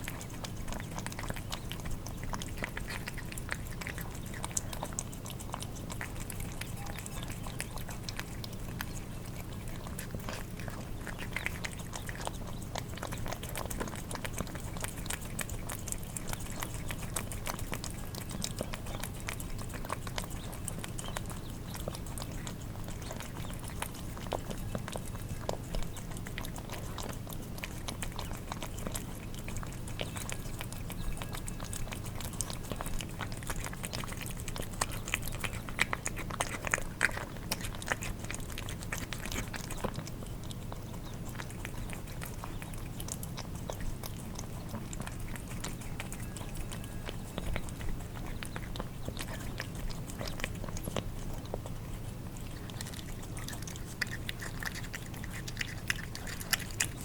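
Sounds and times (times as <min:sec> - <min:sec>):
cats lapping and chewing: 0:00.0 - 0:57.0
small clicks and smacks: 0:00.0 - 0:57.0
steady low hum: 0:00.0 - 0:57.0.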